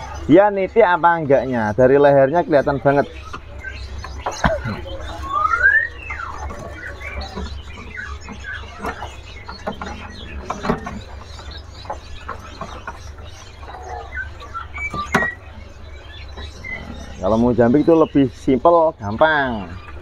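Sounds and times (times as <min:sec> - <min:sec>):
songbirds chirping and squeaking: 0:00.0 - 0:20.0
steady low hum: 0:00.0 - 0:20.0.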